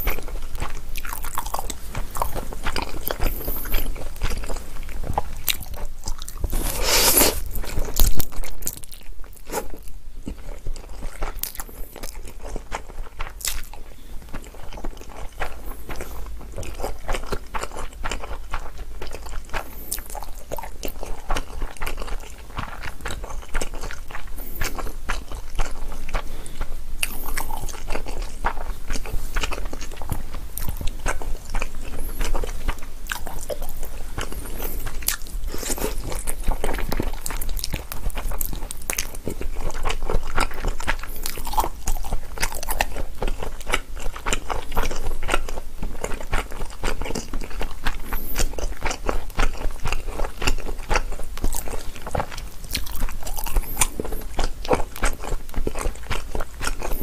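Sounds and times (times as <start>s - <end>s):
person chewing with wet clicks: 0.0s - 57.0s.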